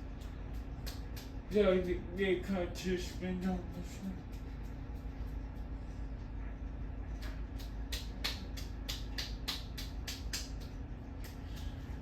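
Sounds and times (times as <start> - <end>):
ceiling fan motor hum: 0.0 - 12.0
fan ticking: 0.0 - 12.0.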